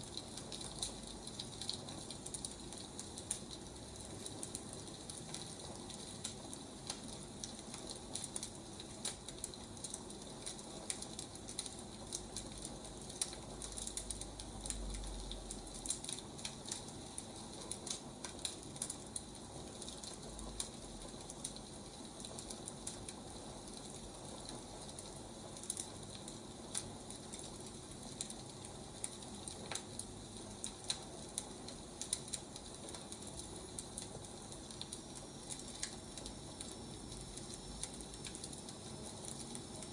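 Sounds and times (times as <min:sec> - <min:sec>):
fire popping and snapping: 0:00.0 - 0:39.9
steady fire hiss: 0:00.0 - 0:39.9.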